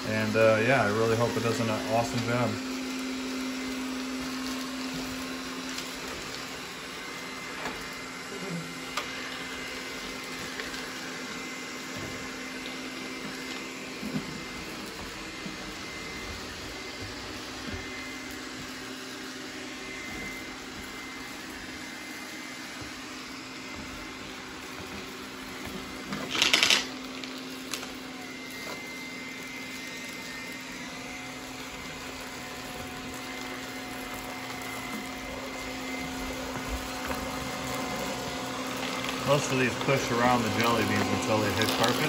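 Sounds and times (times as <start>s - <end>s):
robot vacuum motor hum: 0.0s - 42.0s.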